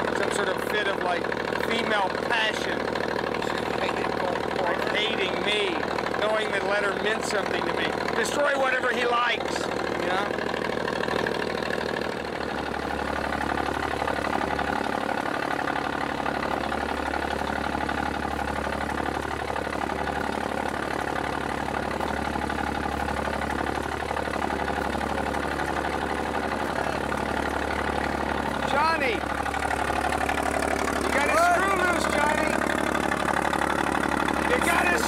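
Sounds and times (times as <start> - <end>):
boat engine idling: 0.0 - 35.0.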